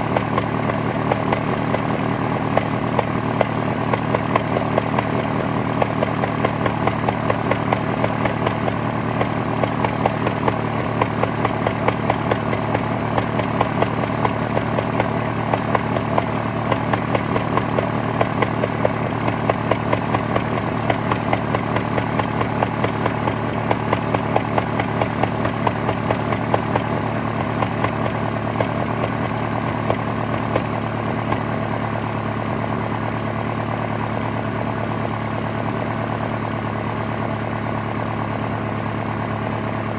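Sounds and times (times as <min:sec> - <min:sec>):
car engine idling: 0:00.0 - 0:39.9
engine ticking: 0:00.0 - 0:39.9.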